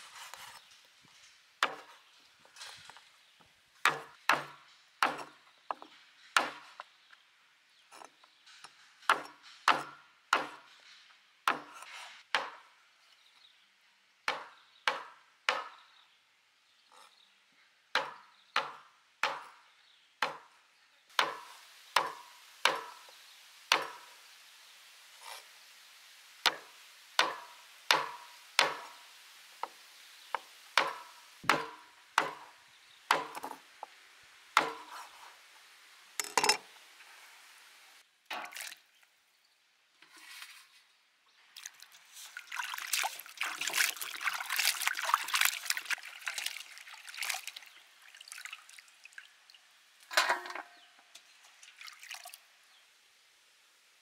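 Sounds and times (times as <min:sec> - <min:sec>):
faint steady hiss: 0:00.0 - 0:14.8, 0:19.1 - 0:54.0.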